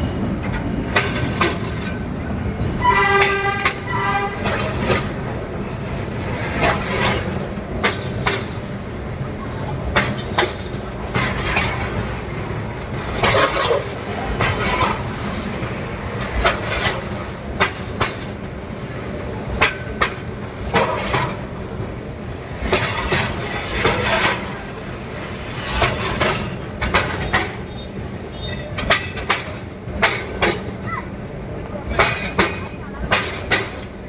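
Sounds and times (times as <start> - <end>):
train low rumble: 0.0 - 34.0
train wheels clanking and rattling: 0.0 - 34.0.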